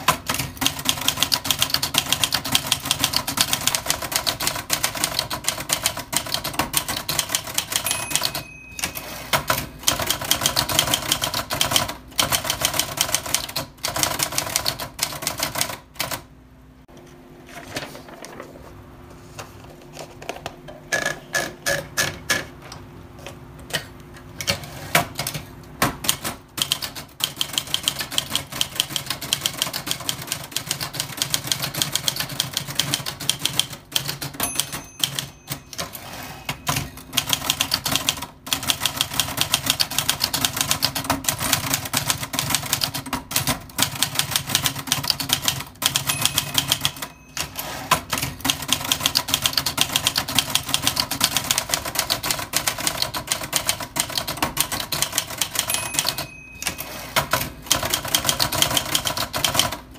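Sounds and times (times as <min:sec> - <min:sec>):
typewriter keystrokes: 0:00.0 - 0:16.3, 0:24.4 - 0:59.9.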